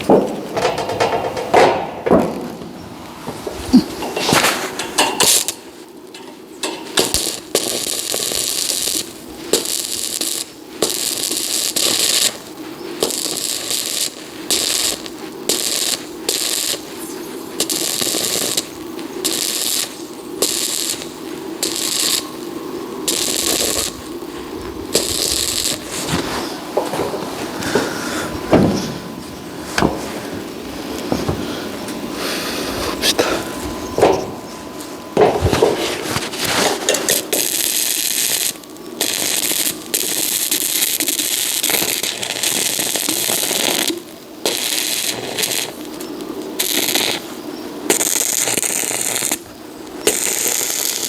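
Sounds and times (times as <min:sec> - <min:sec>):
arc welding crackling: 0:00.0 - 0:51.0.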